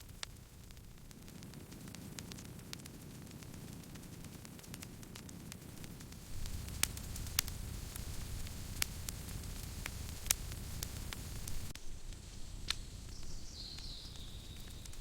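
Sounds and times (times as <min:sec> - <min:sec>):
campfire crackling: 0:00.0 - 0:15.0
low rumble of flames: 0:00.0 - 0:15.0.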